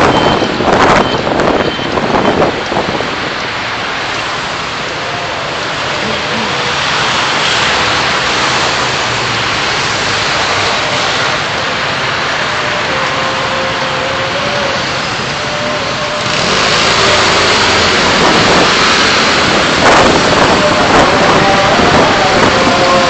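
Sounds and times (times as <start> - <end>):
car road and wind noise: 0.0 - 23.0.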